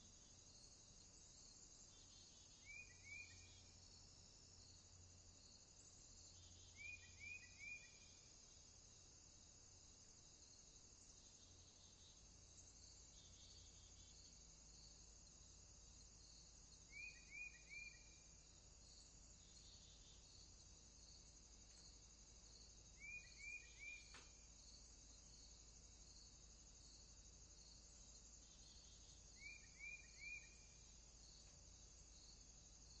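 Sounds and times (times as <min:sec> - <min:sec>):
insects chorus: 0:00.0 - 0:33.0.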